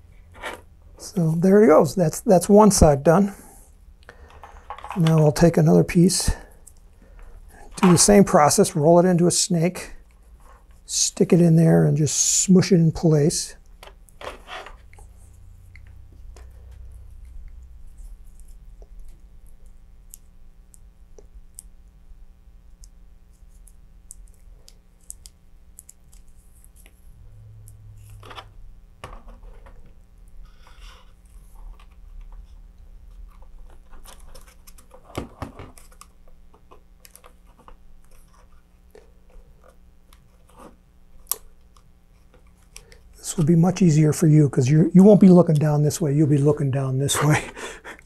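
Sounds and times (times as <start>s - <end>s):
faint low hum: 0.0s - 48.0s.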